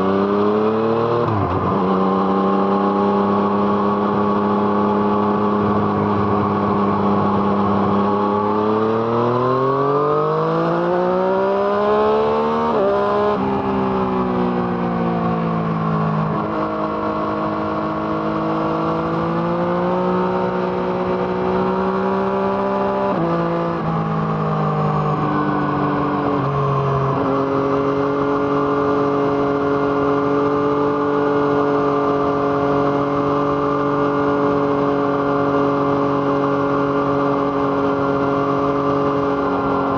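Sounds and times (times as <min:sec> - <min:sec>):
motorcycle engine accelerating hard: 0:00.0 - 0:39.9.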